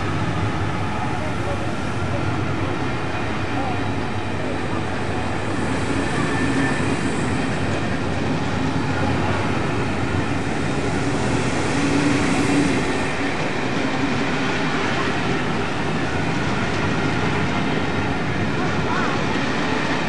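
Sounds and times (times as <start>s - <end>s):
train coaches rumbling on track: 0.0s - 20.0s.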